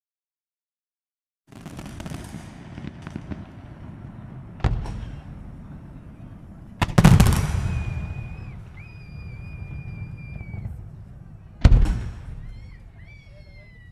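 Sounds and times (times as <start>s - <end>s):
sharp firework bangs: 1.5s - 13.0s
fireworks crackling and rumbling: 1.5s - 13.9s.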